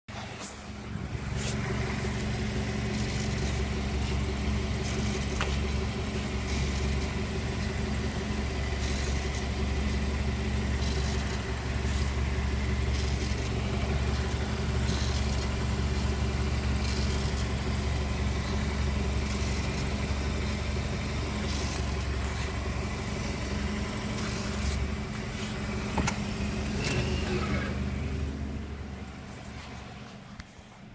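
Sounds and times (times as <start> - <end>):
car engine humming: 0.1 - 30.9.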